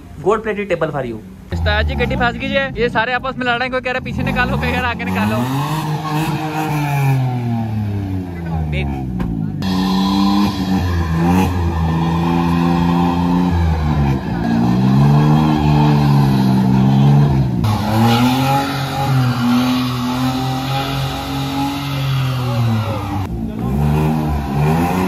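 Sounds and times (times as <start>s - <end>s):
tyres spinning and squealing: 3.8s - 25.0s
car engine revving hard: 4.1s - 25.0s.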